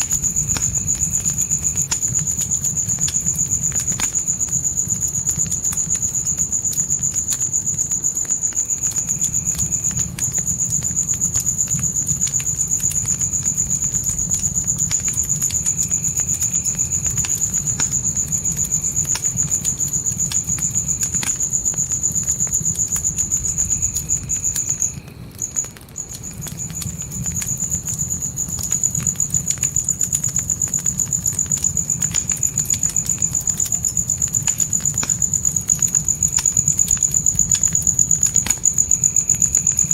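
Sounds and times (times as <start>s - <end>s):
crickets trilling: 0.0s - 39.9s
fire crackling: 0.0s - 39.9s.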